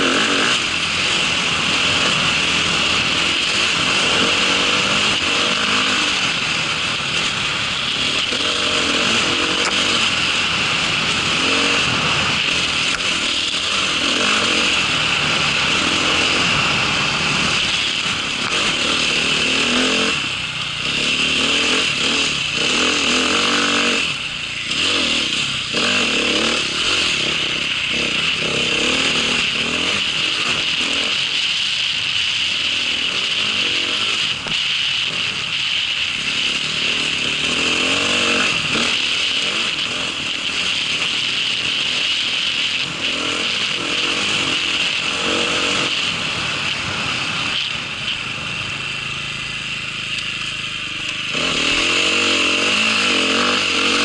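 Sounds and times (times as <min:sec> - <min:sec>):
small vehicle engine running: 0:00.0 - 0:54.0.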